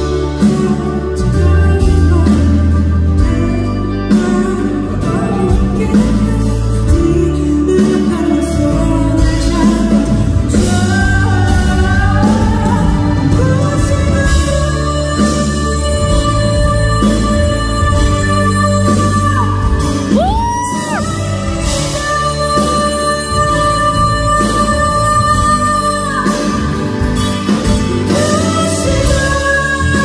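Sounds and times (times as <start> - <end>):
electric guitar: 0.0 - 30.0
live band music: 0.0 - 30.0
person singing: 0.0 - 30.0.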